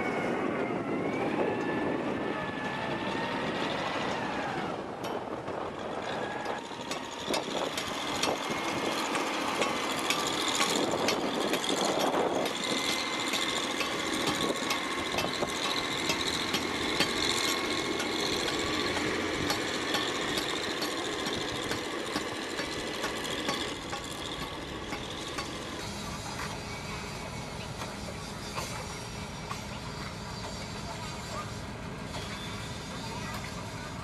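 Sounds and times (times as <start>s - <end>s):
construction machinery running: 0.0s - 34.0s.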